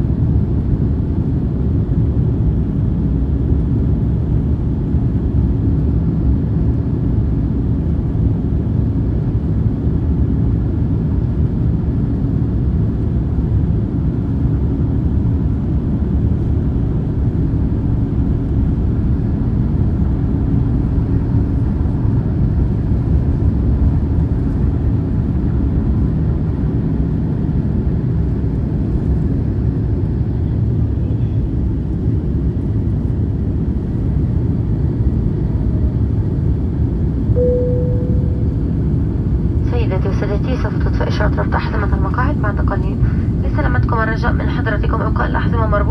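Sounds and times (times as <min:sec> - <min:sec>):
aircraft cabin engine roar: 0:00.0 - 0:45.9
constant low hum: 0:00.0 - 0:45.9.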